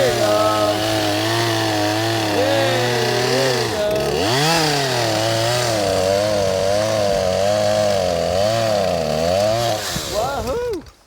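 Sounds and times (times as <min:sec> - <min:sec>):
chainsaw cutting through wood: 0:00.0 - 0:11.0.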